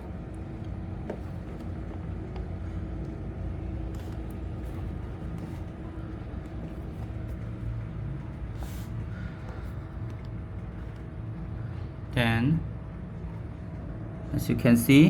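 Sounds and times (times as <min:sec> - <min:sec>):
faint hum: 0:00.0 - 0:15.0
low background rumble: 0:00.0 - 0:15.0.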